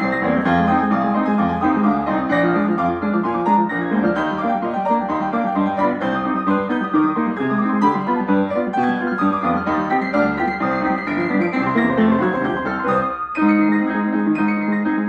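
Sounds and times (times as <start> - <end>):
piano duet: 0.0 - 15.0.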